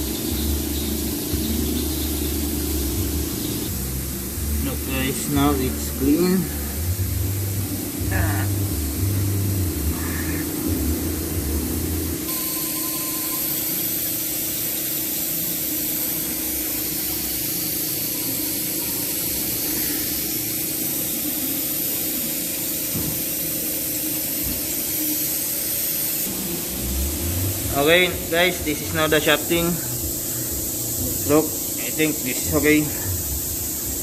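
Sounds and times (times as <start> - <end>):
steady spray hiss: 0.0 - 34.0.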